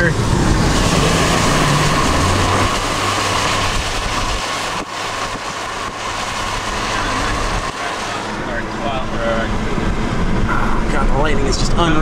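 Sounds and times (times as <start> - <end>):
car road and wind noise: 0.0 - 12.0
engine low hum: 0.0 - 12.0.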